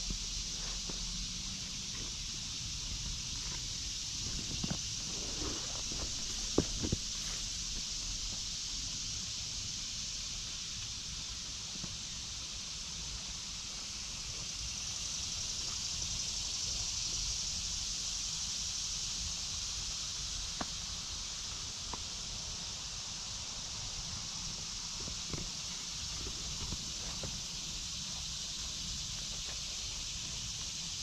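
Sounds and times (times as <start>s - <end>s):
cicadas buzzing: 0.0s - 31.0s.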